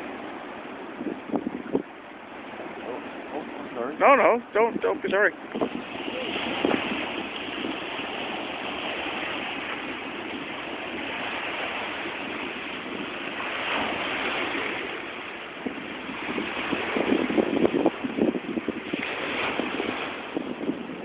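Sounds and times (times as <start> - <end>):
lake waves splashing on shore: 0.0 - 21.0.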